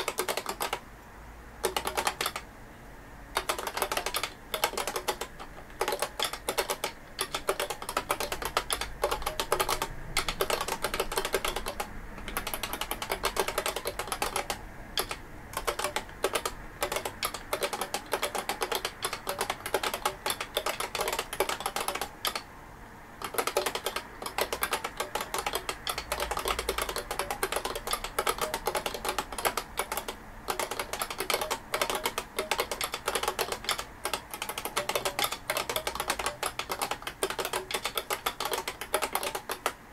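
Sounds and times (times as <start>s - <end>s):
keyboard keys clacking: 0.0s - 0.8s, 1.6s - 2.5s, 3.4s - 22.5s, 23.2s - 39.9s.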